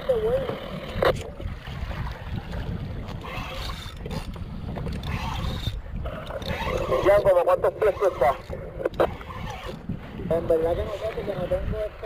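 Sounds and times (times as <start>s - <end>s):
water splashing against kayak: 0.0s - 12.0s
wind rumbling on microphone: 0.0s - 12.0s.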